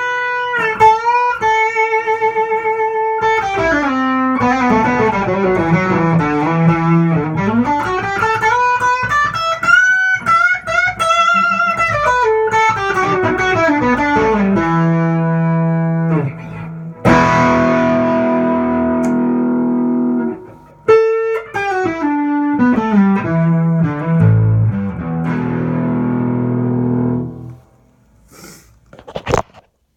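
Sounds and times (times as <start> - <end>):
electric guitar playing: 0.0 - 27.9.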